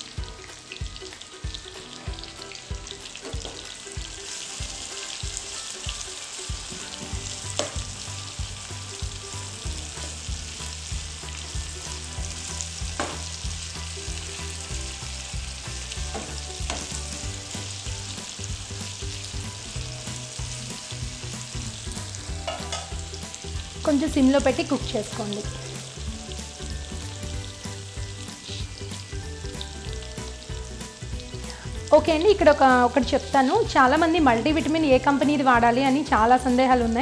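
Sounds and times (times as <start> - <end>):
chicken sizzling in a frying pan: 0.0 - 37.0.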